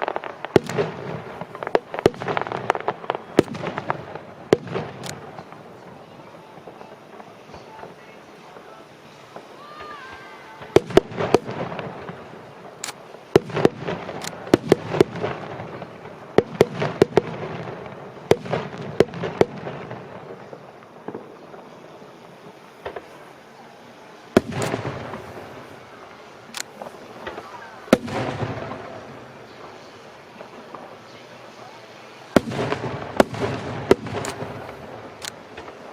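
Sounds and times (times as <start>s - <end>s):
fireworks bangs: 0.0s - 35.9s
fireworks crackle: 0.0s - 35.9s.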